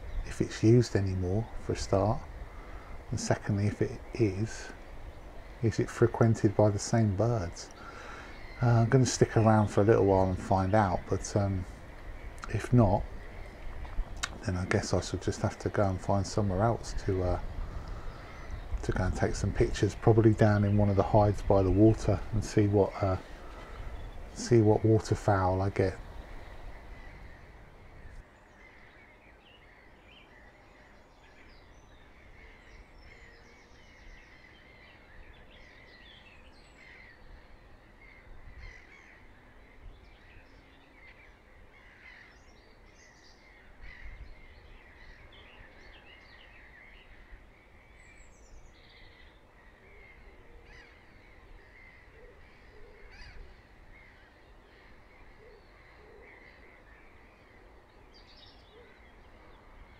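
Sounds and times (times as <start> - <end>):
jackdaws calling faintly: 0.0 - 59.9
small birds chirping: 0.0 - 59.9.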